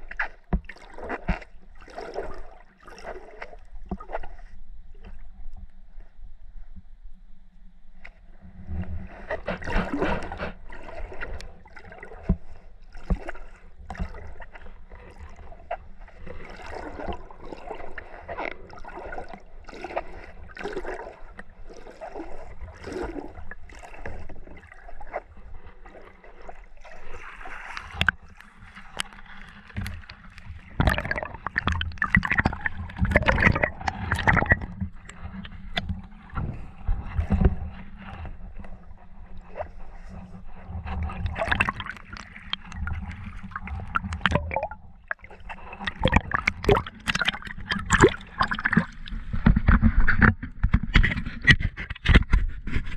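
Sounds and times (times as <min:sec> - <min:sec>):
water sloshing and gurgling: 0:00.0 - 0:52.9.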